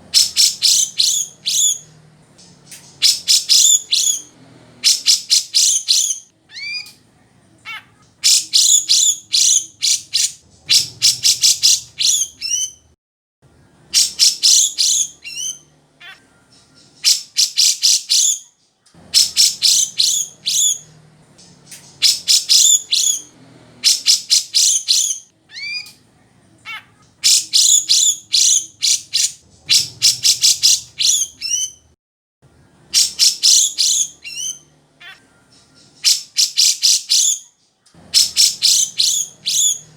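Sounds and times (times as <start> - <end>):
bird chattering song: 0.0 - 7.0, 7.6 - 12.9, 13.5 - 26.0, 26.6 - 31.9, 32.5 - 39.9.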